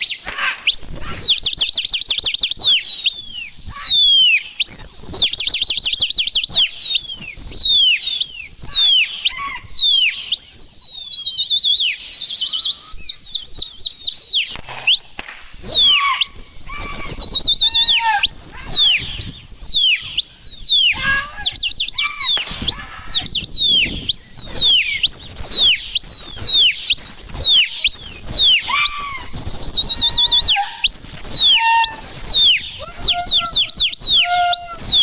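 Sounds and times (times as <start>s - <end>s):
loud whistling with trills: 0.0s - 35.0s.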